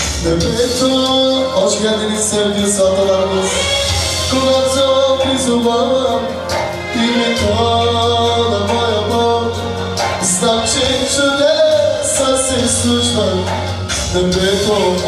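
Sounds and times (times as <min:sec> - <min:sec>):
song with singing: 0:00.0 - 0:15.0
steady bass: 0:00.0 - 0:15.0.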